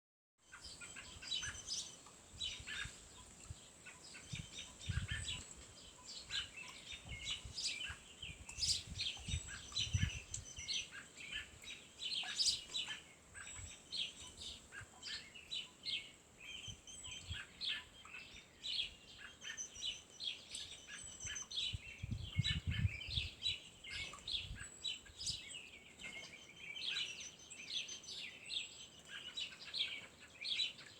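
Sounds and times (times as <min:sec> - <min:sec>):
birds chirping and trilling: 0:00.4 - 0:30.9.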